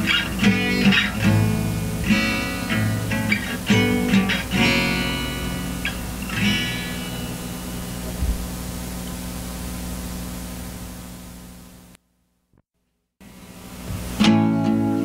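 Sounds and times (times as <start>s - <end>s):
guitar chords: 0.0s - 10.9s, 13.3s - 15.0s.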